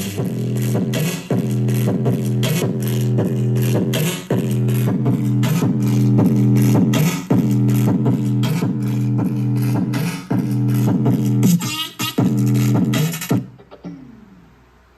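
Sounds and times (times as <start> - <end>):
beat music on portable speaker: 0.0 - 14.5.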